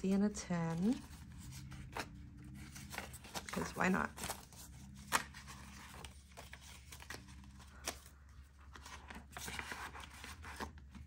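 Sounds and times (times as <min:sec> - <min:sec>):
paper rustling: 0:00.4 - 0:11.0.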